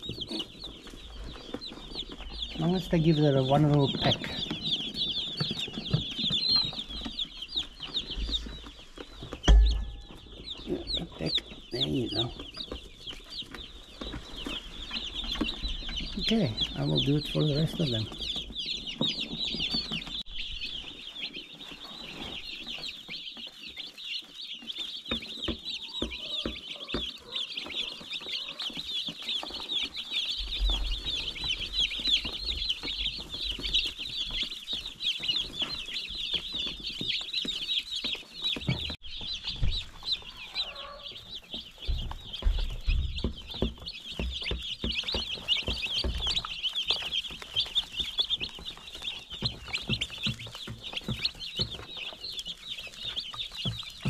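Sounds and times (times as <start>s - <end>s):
low bumps: 0.0s - 20.9s, 30.2s - 54.0s
chicks peeping: 0.0s - 54.0s.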